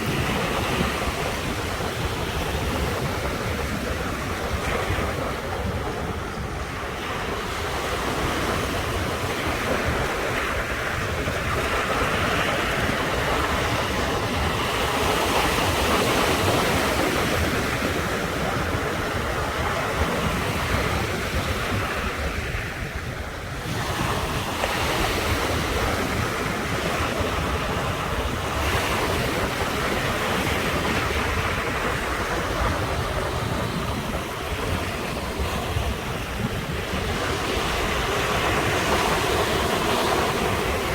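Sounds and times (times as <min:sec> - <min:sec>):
ocean surf washing onto shore: 0:00.0 - 0:40.9
wind rumble on microphone: 0:00.0 - 0:40.9.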